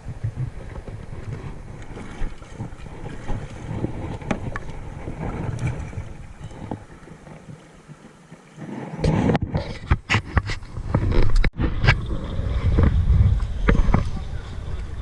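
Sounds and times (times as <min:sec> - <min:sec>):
moving water: 0:00.0 - 0:15.0
wind on microphone: 0:00.0 - 0:15.0.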